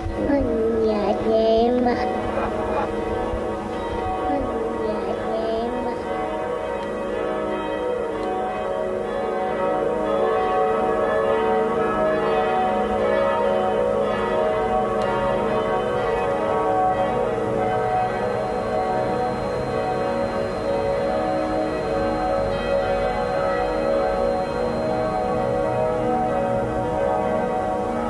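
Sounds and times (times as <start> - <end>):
sustained bell-like tones music: 0.0 - 28.0.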